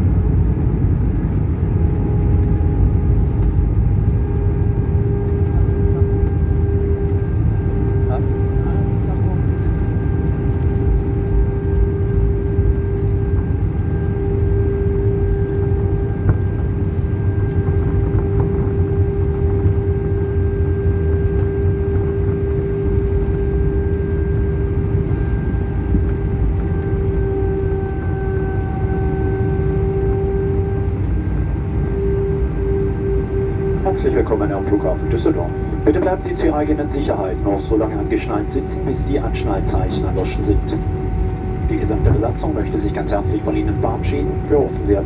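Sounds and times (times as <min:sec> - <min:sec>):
aircraft cabin low rumble: 0:00.0 - 0:45.0
steady whine: 0:00.0 - 0:45.0.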